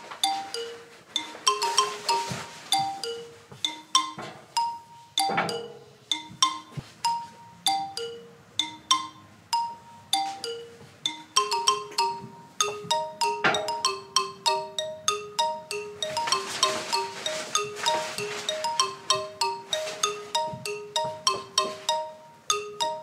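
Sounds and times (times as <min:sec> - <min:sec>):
marimba-like mallet melody: 0:00.0 - 0:23.0.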